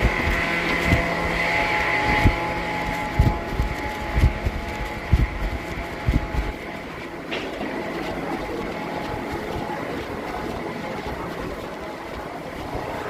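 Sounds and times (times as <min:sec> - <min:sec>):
sawmill machinery hum and rumble: 0:00.0 - 0:13.0.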